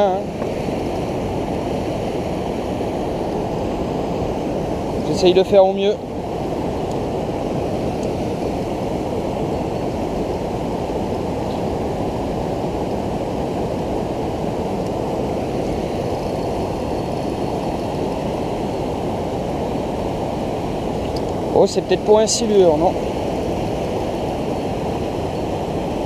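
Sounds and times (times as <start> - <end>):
river rushing over riffle: 0.0 - 26.0.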